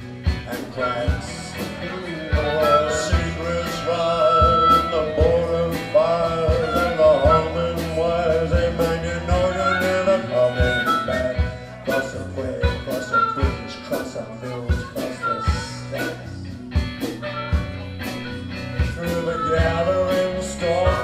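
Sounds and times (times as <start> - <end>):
electric guitar: 0.0 - 21.0
harmonica melody: 0.0 - 21.0
steady drum beat: 0.0 - 21.0.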